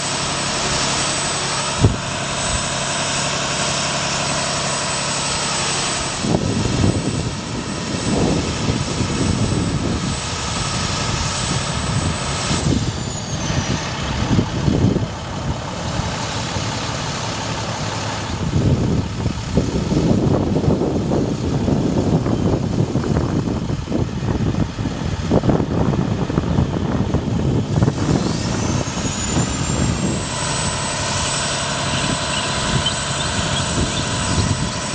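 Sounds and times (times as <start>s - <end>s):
diesel truck engine running: 0.0s - 34.9s
low gusts of rumble: 0.0s - 34.9s.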